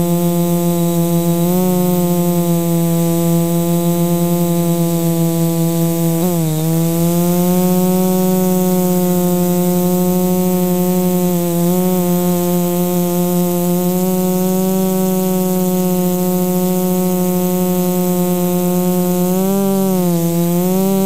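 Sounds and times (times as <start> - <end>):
drone motors humming: 0.0 - 21.0.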